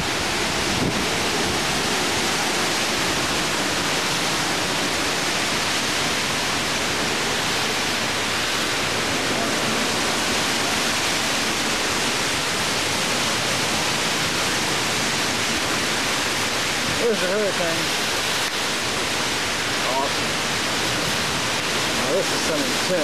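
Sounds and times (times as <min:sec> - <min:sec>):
driving rain: 0:00.0 - 0:23.0
strong wind: 0:00.0 - 0:23.0.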